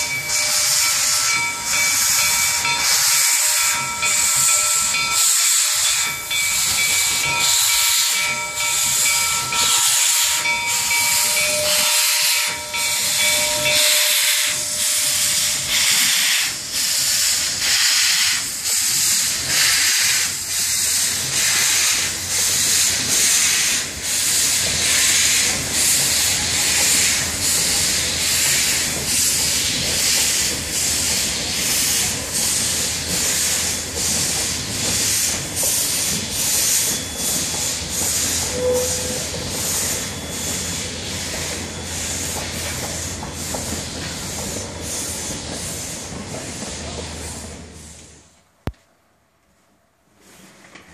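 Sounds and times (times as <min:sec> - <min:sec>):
steam exhaust hissing rhythmically: 0:00.0 - 0:48.2
train cars rumbling on rails: 0:00.0 - 0:48.3.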